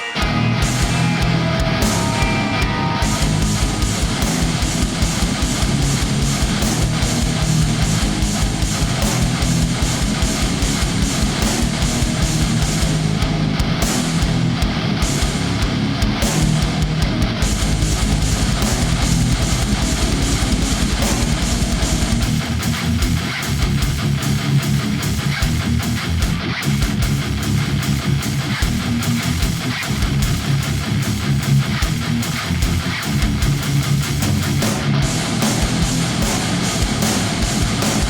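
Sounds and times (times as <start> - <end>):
heavy metal distorted guitars: 0.0 - 38.0.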